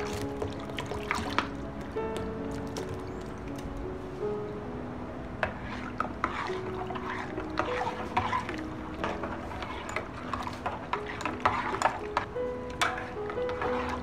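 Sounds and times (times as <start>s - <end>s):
liquid sloshing in pot: 0.0s - 3.7s, 5.4s - 14.0s
soft background music: 0.0s - 14.0s.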